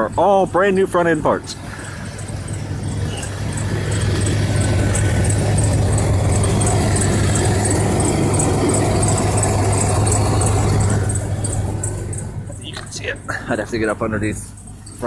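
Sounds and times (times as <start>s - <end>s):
car engine idling: 0.0s - 15.0s
fast high ticking: 0.0s - 15.0s.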